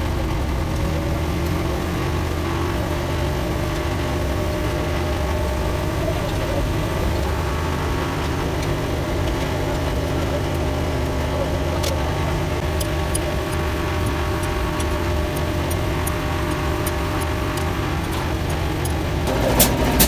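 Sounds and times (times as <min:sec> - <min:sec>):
heavy engine idling: 0:00.0 - 0:20.0.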